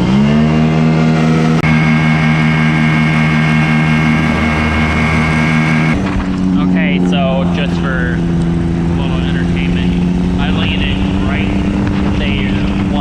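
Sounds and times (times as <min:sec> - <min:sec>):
ultralight engine and propeller: 0:00.0 - 0:13.0.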